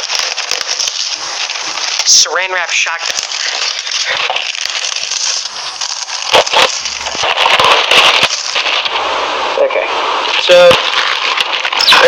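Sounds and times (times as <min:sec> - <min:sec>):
plastic wrap crinkling: 0:00.0 - 0:09.0, 0:10.3 - 0:12.0.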